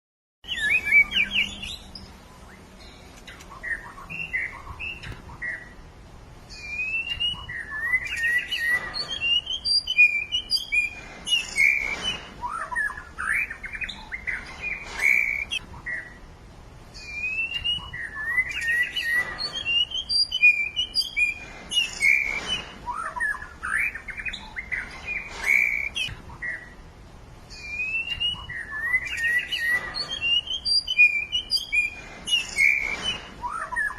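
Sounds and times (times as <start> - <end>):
songbird singing: 0.4 - 33.9.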